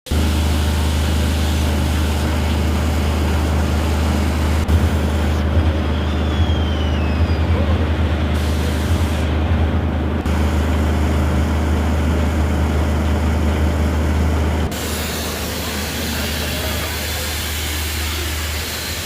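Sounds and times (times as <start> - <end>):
steam engines humming and hissing: 0.1 - 19.0.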